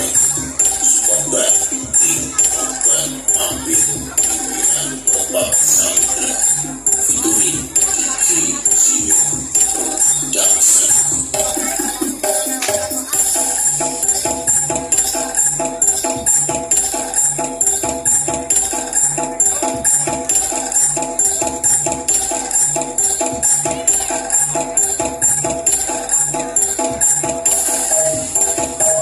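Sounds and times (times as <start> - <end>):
percussion ensemble music: 0.0 - 29.0.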